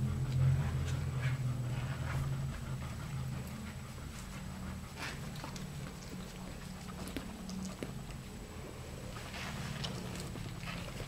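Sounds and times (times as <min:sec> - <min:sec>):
dog panting: 0:00.0 - 0:08.4, 0:09.0 - 0:11.0.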